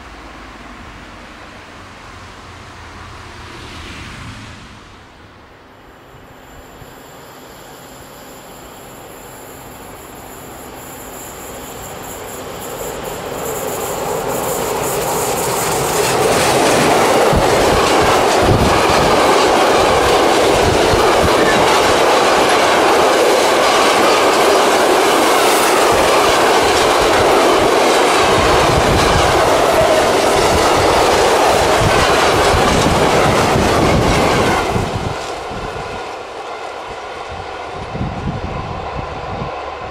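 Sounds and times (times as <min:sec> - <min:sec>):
train passing: 0:00.0 - 0:39.9
wheel and rail noise: 0:00.0 - 0:39.9.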